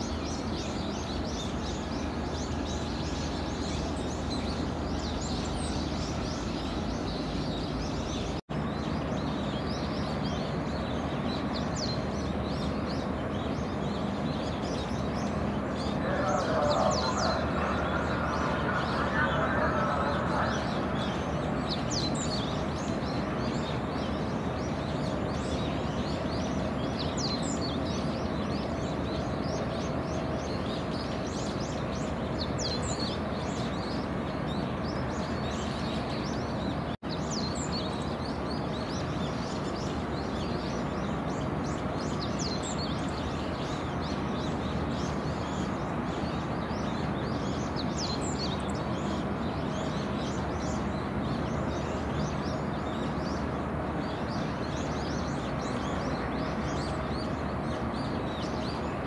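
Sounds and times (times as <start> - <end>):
small birds chirping: 0.0 - 59.0
steady background noise: 0.0 - 59.0.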